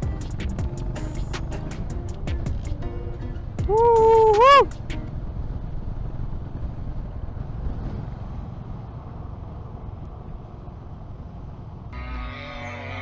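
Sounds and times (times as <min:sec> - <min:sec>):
motorcycle road rumble: 0:00.0 - 0:13.0.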